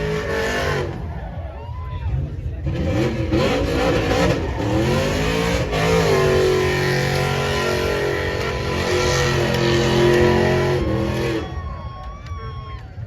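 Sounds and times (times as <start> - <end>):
truck engine revving: 0.0 - 1.4, 2.1 - 11.6.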